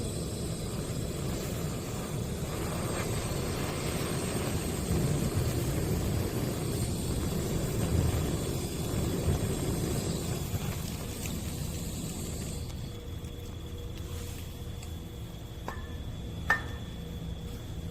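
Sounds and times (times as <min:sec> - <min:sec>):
gas torch flame rushing: 0:00.0 - 0:15.6.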